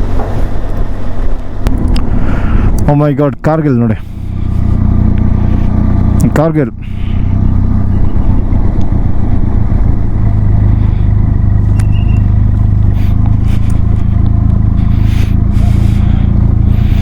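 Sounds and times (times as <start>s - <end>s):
motorcycle engine cruising: 0.0s - 17.0s
rushing riding noise: 0.0s - 17.0s.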